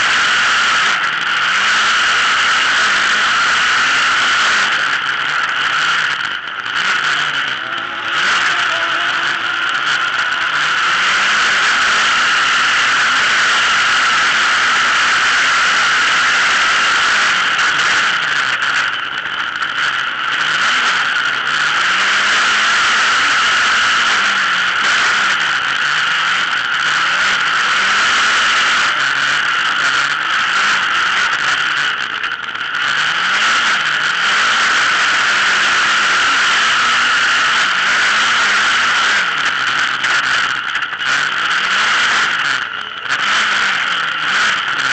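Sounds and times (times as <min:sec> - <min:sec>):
racing engine revving: 0:00.0 - 0:44.9.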